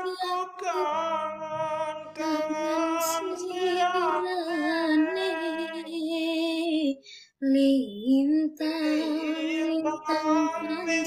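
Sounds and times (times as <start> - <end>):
woman singing slow song: 0.0 - 11.0.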